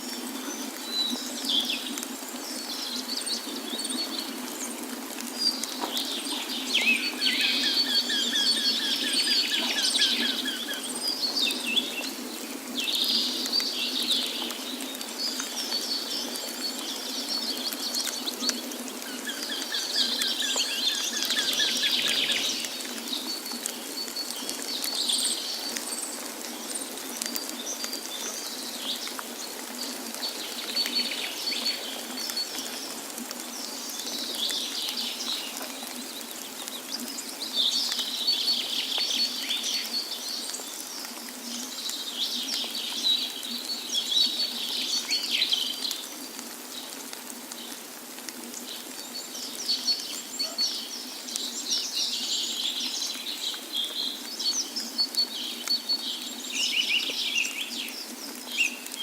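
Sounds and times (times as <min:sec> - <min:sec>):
flowing water: 0:00.0 - 0:59.0
songbirds chirping and twittering: 0:00.0 - 0:59.0.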